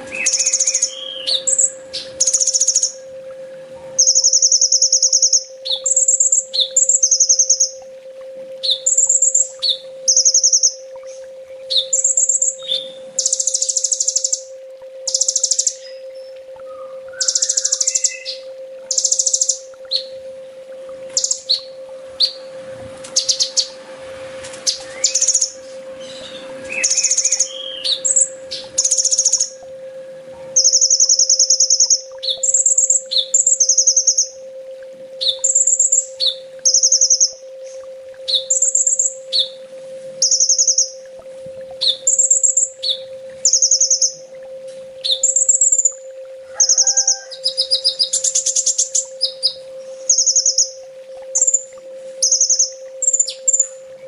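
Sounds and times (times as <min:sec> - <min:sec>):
sunbird trilled chirps: 0:00.0 - 0:03.0, 0:04.0 - 0:07.8, 0:08.6 - 0:14.5, 0:15.1 - 0:20.2, 0:21.1 - 0:22.5, 0:23.2 - 0:23.8, 0:24.6 - 0:29.6, 0:30.6 - 0:34.4, 0:35.2 - 0:39.6, 0:40.2 - 0:41.0, 0:41.8 - 0:44.2, 0:45.0 - 0:53.8
steady low hum: 0:00.0 - 0:54.0.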